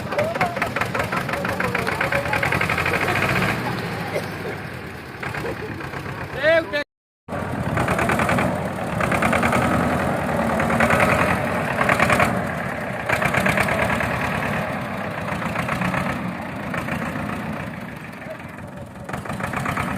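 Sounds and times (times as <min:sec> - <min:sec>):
diesel tractor engine knocking: 0:00.0 - 0:19.9.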